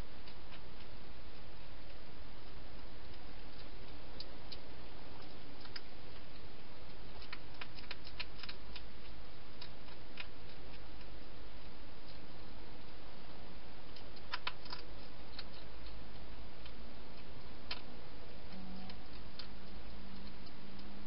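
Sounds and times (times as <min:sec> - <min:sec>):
hedgehog eating clicks: 0:00.0 - 0:21.0
steady hiss: 0:00.0 - 0:21.0.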